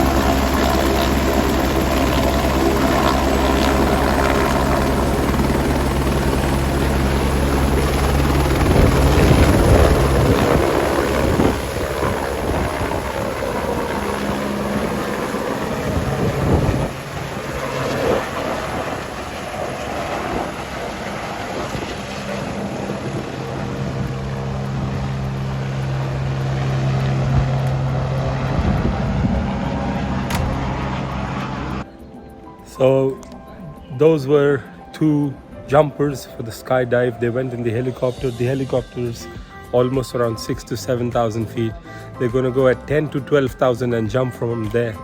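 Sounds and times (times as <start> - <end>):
helicopter running: 0.0 - 45.0.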